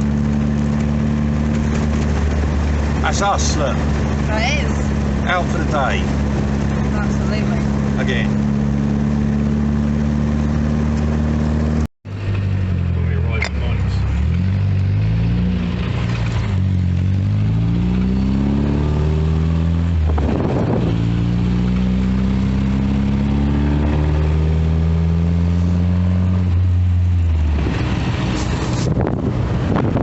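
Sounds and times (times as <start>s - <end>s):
car engine accelerating: 0.0s - 30.0s
wind and road noise: 0.0s - 30.0s.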